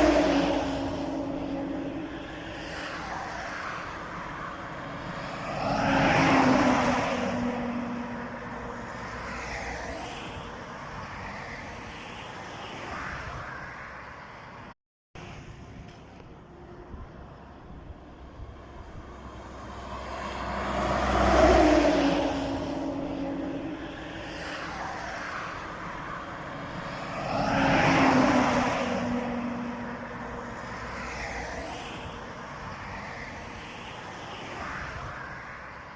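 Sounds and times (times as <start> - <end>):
trucks driving past: 0.0 - 35.9.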